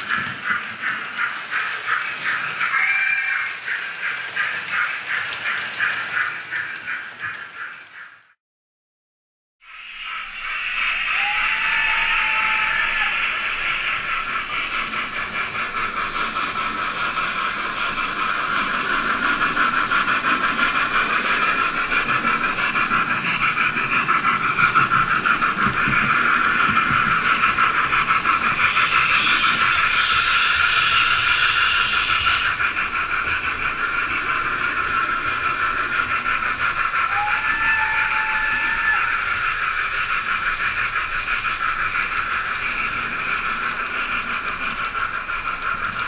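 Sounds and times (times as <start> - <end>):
tinny steam locomotive chuffing: 0.0 - 8.4, 9.7 - 46.0.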